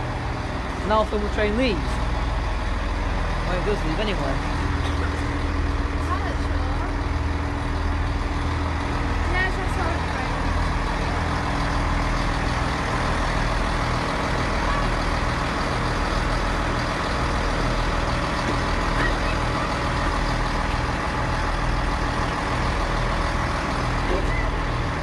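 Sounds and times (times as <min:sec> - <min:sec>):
train diesel engines idling: 0:00.0 - 0:25.0.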